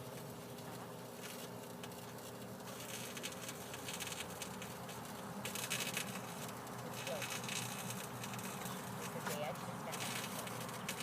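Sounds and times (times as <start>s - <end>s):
microwave oven buzzing: 0.0s - 11.0s
small crackles: 0.0s - 11.0s.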